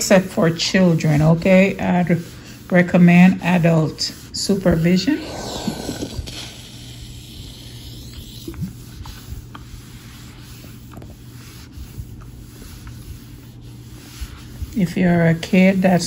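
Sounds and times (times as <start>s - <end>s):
iron rubbing over vinyl sheet: 0.0s - 16.0s.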